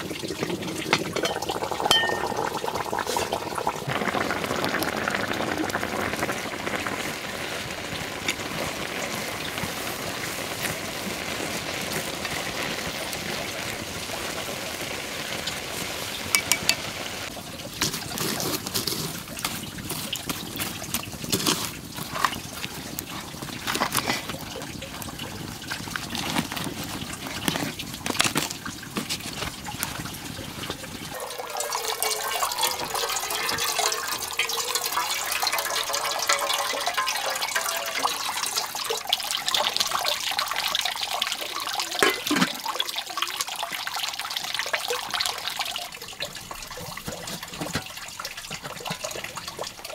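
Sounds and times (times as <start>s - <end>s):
rice boiling in a pot: 0.0s - 49.9s
water trickling into a metal pot: 0.0s - 49.9s
wood fire crackling: 0.0s - 49.9s.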